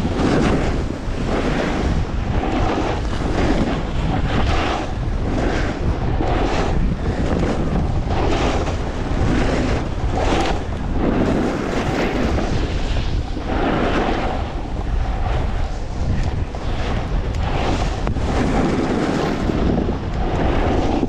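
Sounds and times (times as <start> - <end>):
snowboard scraping snow: 0.0 - 21.0
wind on microphone: 0.0 - 21.0.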